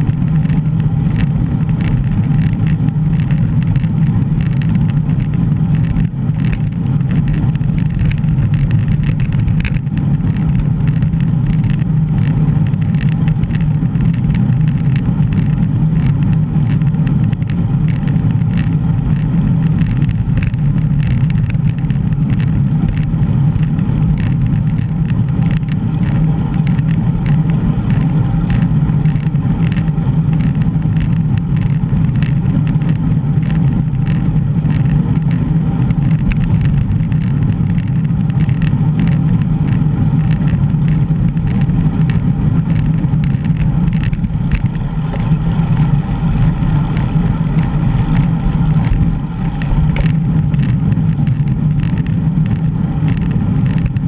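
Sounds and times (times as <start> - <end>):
wind buffeting microphone: 0.0 - 54.0
light clicks and rattles: 0.1 - 54.0.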